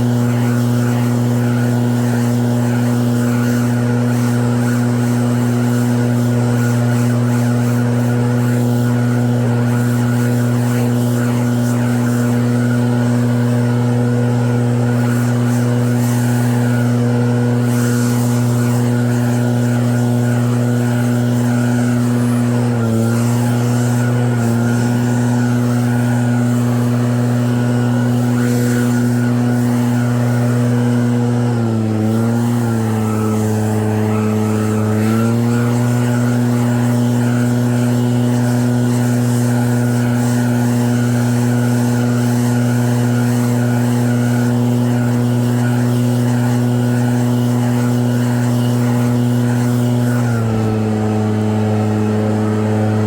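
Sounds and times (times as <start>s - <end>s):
snowblower engine running: 0.0s - 53.0s.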